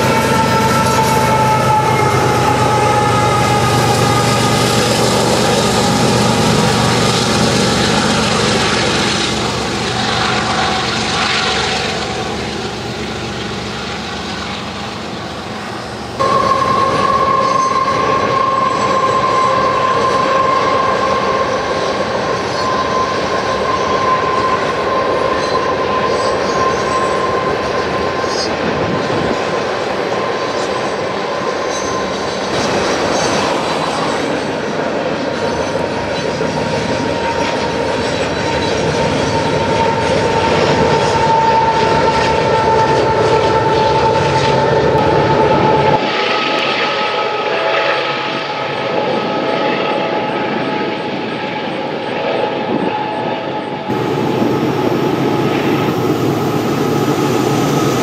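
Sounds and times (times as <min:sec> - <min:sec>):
diesel locomotive engine drone: 0:00.0 - 0:58.0
high wheel squeal: 0:00.0 - 0:58.0
train wheels rumbling: 0:00.0 - 0:58.0.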